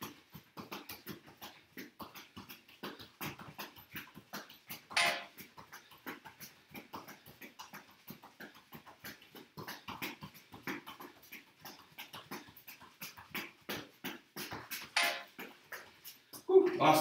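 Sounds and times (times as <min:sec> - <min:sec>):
soccer ball tapped by feet: 0:00.0 - 0:17.0.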